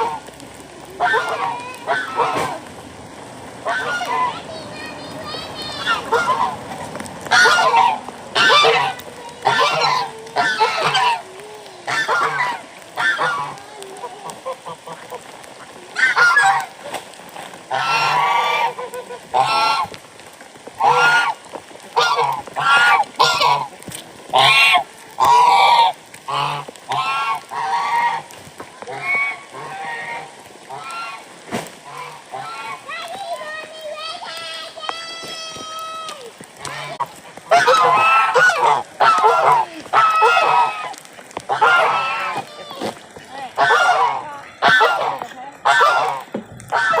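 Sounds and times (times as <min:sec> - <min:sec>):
waterfowl honking: 0:00.0 - 0:02.7, 0:03.6 - 0:04.6, 0:05.2 - 0:20.1, 0:20.7 - 0:32.9, 0:36.6 - 0:47.0.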